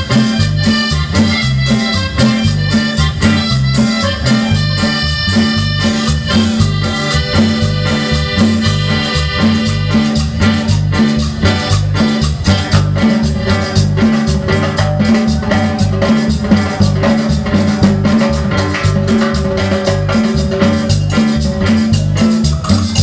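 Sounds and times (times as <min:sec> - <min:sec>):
accordion: 0:00.0 - 0:23.0
live band playing latin dance music: 0:00.0 - 0:23.0.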